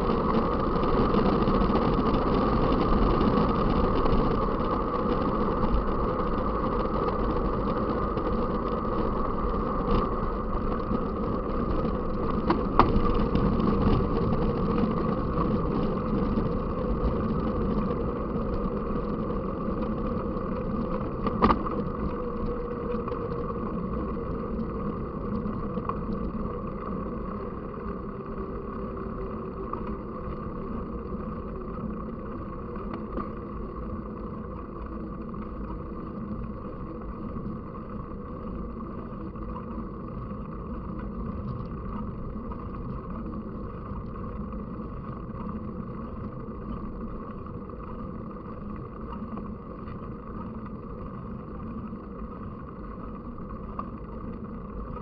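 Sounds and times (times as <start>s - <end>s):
bike tyres rolling: 0.0s - 55.0s.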